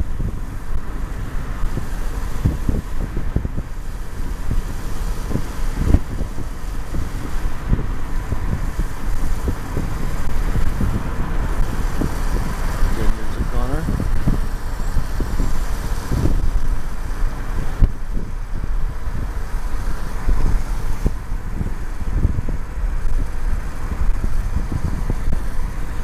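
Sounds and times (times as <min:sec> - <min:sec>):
car engine and road noise: 0:00.0 - 0:26.0
wind buffeting microphone: 0:00.0 - 0:26.0.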